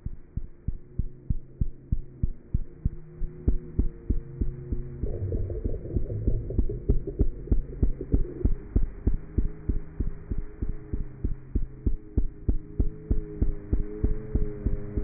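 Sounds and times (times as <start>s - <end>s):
heartbeat thumps: 0.0s - 15.0s
steady hum: 0.0s - 15.0s.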